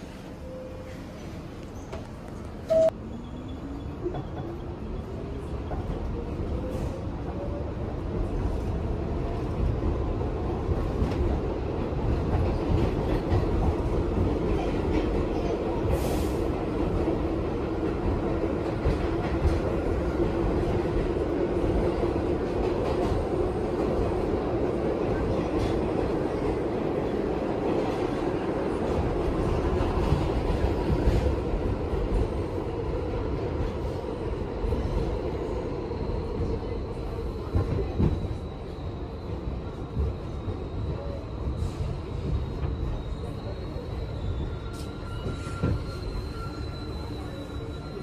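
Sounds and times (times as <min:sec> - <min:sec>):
subway train motors whining: 0:00.0 - 0:48.0.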